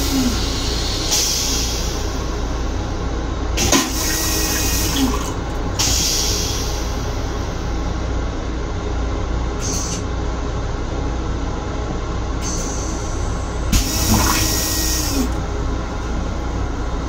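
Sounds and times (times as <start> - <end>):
train rumble with hiss: 0.0 - 17.0.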